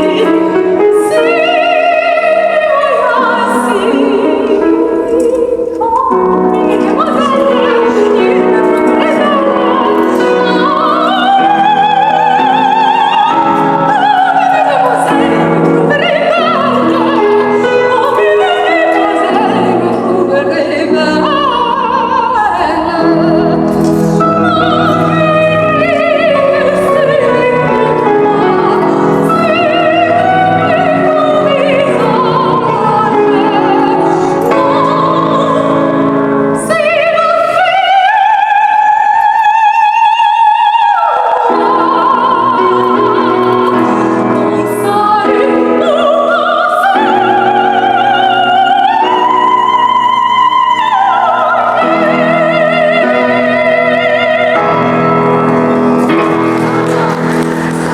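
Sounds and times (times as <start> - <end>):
piano accompaniment: 0.0 - 57.9
soprano singing opera: 0.0 - 57.9.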